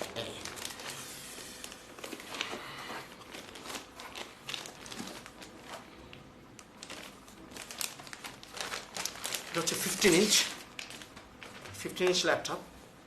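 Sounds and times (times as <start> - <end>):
plastic and paper crinkling: 0.0 - 12.6.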